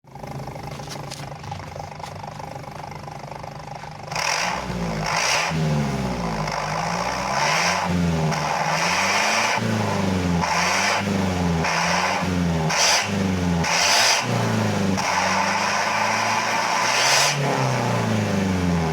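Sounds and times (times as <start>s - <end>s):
car engine idling and revving: 0.0s - 18.9s.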